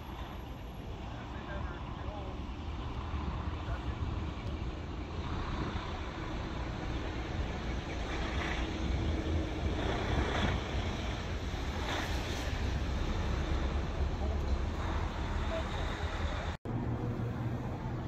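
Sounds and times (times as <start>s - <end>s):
wind rumbling on microphone: 0.0s - 16.6s.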